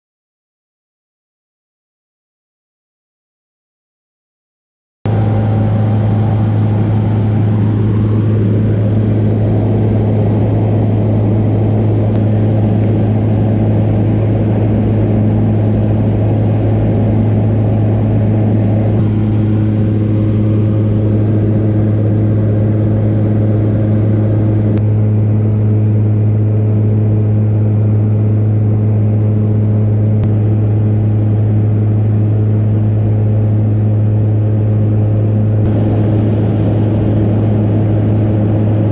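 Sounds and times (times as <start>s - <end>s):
plane engine and propeller drone: 5.1s - 38.9s.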